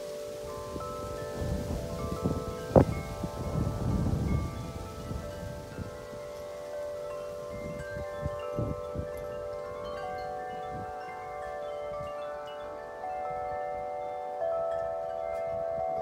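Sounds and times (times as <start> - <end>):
wind chime ringing: 0.0 - 16.0
wind gusts on microphone: 0.0 - 16.0.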